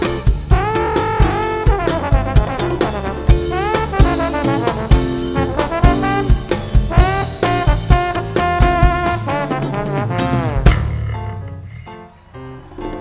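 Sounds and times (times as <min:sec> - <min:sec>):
jazz drums steady beat: 0:00.0 - 0:11.7
trombone jazz solo: 0:00.0 - 0:11.8.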